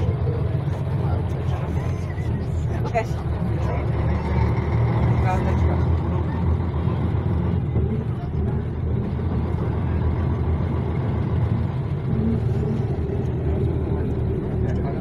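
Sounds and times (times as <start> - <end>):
diesel bus engine running: 0.0 - 15.0
road noise: 0.0 - 15.0.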